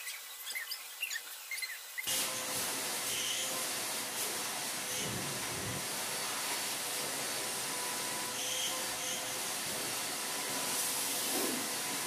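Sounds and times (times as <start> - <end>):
shop vac running: 2.0 - 12.0.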